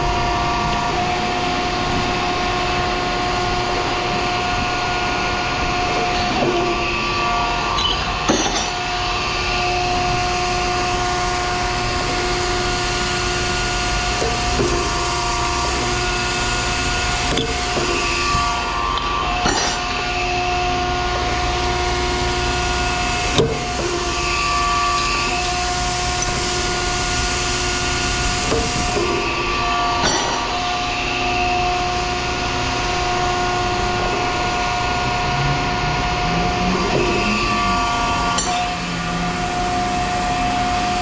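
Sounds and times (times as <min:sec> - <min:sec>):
motor humming: 0:00.0 - 0:41.0.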